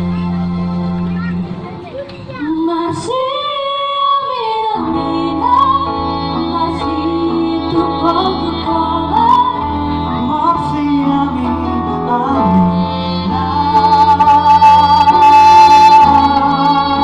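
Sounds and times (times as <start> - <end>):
mixed vocal group singing: 2.6 - 17.0.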